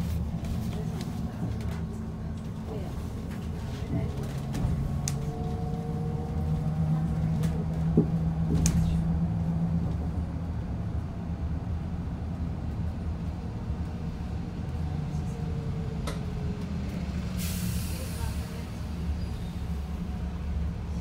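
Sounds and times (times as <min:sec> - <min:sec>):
bus road rumble: 0:00.0 - 0:21.0.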